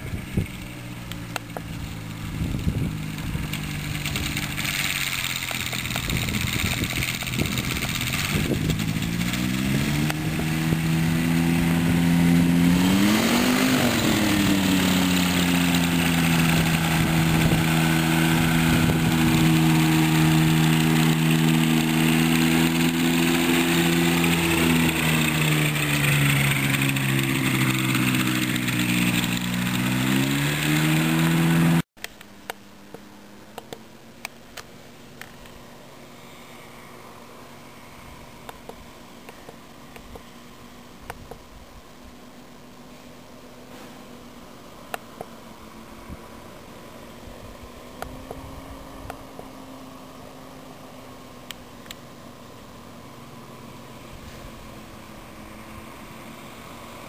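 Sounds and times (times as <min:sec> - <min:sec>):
ultralight trike engine running: 0:00.0 - 0:31.8, 0:35.2 - 0:57.0.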